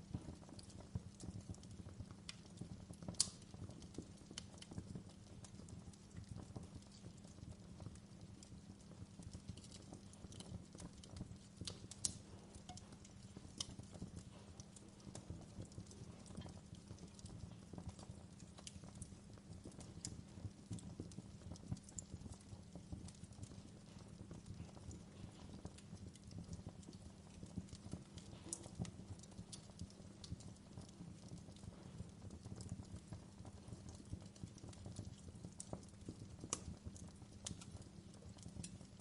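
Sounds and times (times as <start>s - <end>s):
fire crackles: 0.0s - 39.0s
wood fire burning: 0.0s - 39.0s.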